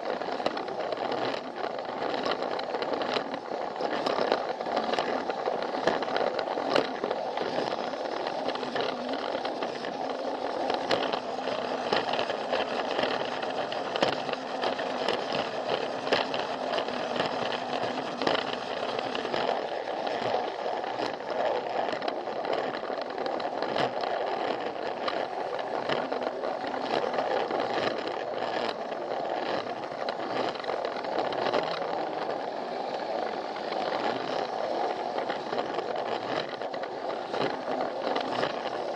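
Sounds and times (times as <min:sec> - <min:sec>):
toy train motor whir: 0:00.0 - 0:38.9
wheels clicking over track joints: 0:00.0 - 0:38.9.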